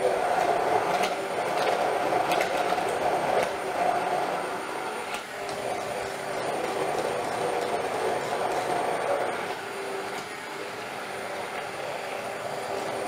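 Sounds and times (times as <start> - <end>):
immersion blender running: 0.0 - 13.0.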